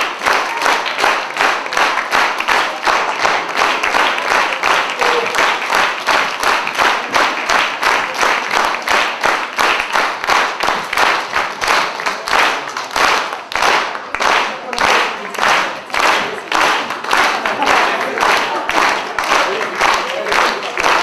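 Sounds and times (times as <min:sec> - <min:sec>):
audience clapping in unison: 0:00.0 - 0:21.0.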